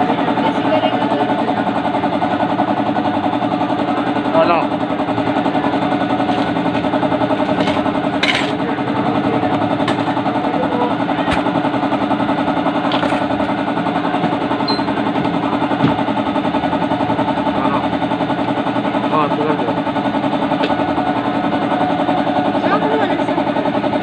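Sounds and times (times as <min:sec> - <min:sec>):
small motorcycle engine idling: 0:00.0 - 0:24.0.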